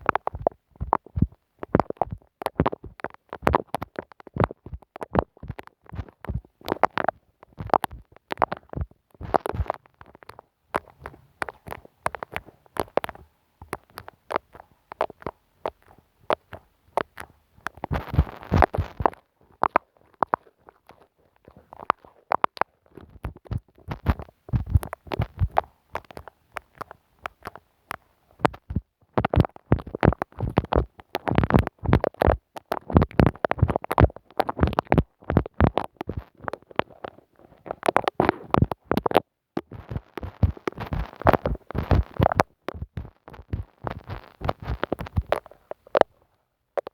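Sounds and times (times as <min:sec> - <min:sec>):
glue stick rubbing on microphone: 0:00.1 - 0:46.1.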